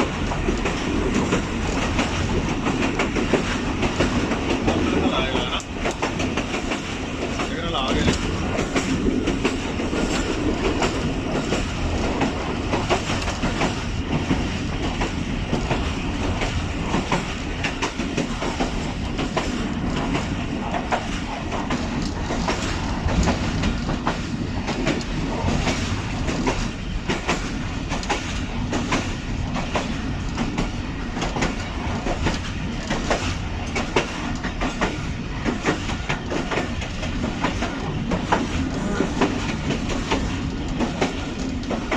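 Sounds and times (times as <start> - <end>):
train rumbling along track: 0.0 - 41.9
wheels clicking over rail joints: 0.0 - 41.9.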